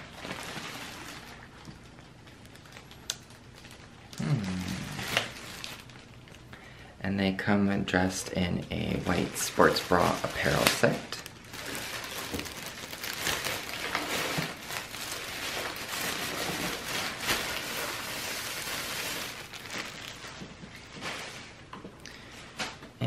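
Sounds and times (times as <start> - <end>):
plastic bag crinkling: 0.0 - 6.7, 8.1 - 22.8.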